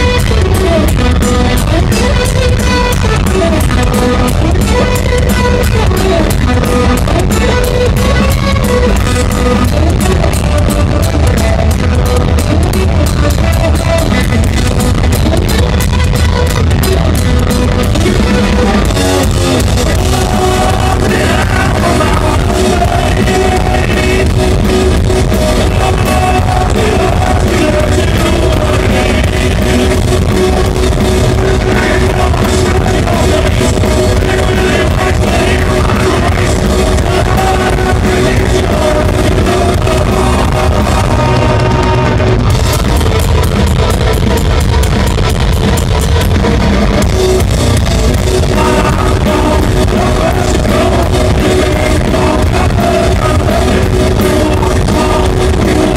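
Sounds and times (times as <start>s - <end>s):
vocals: 0.0s - 43.6s, 46.8s - 55.9s
metal band playing live: 0.0s - 55.9s.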